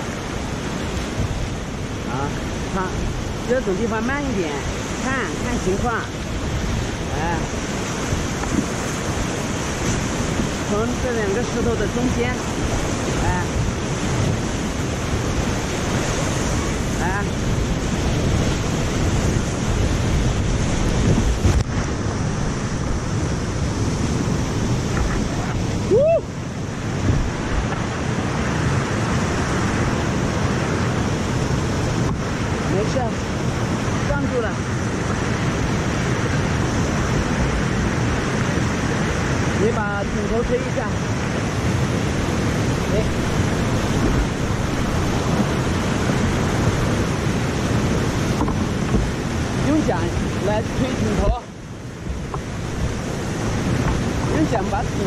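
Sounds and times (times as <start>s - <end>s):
whitewater rushing: 0.0s - 55.0s.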